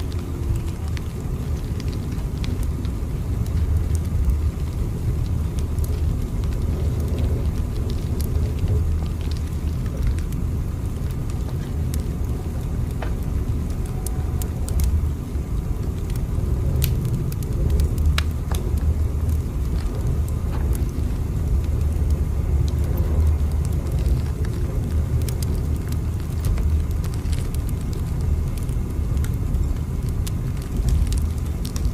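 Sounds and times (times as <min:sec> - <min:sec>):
train rumbling: 0:00.0 - 0:29.3
faint clicks and crackles: 0:00.0 - 0:31.9.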